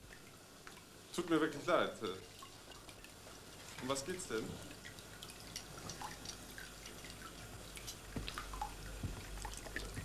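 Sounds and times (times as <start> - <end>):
bath water dripping and splashing: 0.0 - 10.0.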